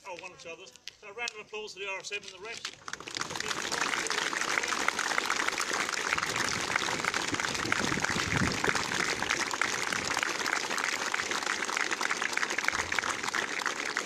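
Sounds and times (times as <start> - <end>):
crowd applauding: 2.7 - 14.0.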